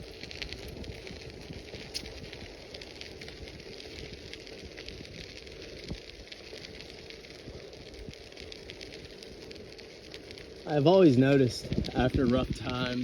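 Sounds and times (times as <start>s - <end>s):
bicycle tyres crackling on gravel: 0.0s - 13.0s.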